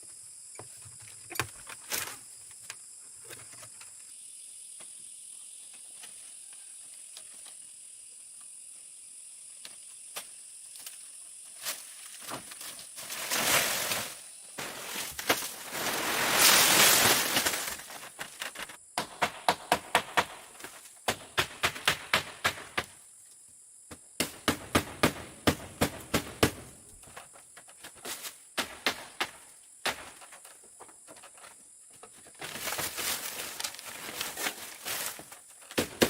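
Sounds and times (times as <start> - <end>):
insects trilling: 0.0 - 21.2, 22.3 - 36.0.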